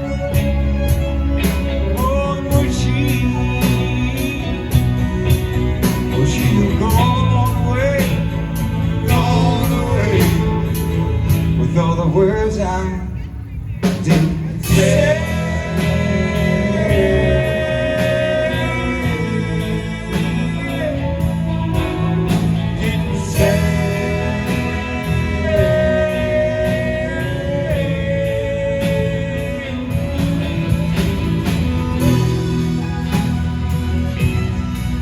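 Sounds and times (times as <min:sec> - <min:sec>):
live band playing country ballad: 0:00.0 - 0:35.0.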